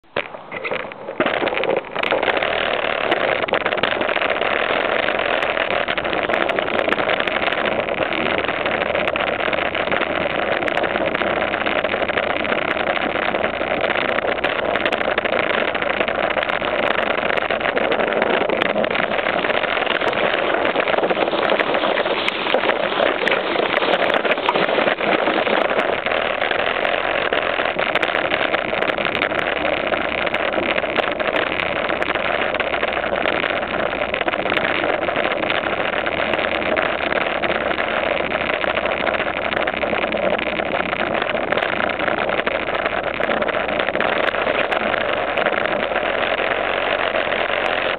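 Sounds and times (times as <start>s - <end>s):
bike tyres rolling on concrete: 0.0s - 47.9s.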